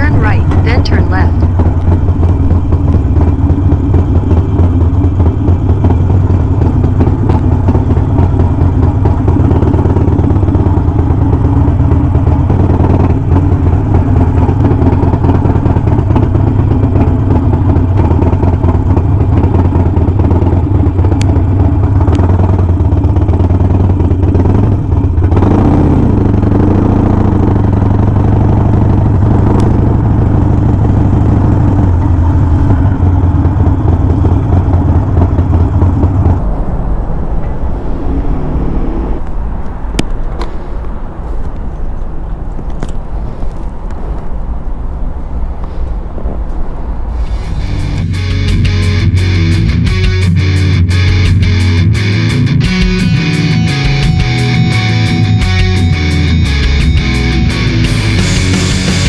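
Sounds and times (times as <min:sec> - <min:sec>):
motorcycle engine drone: 0:00.0 - 0:59.0.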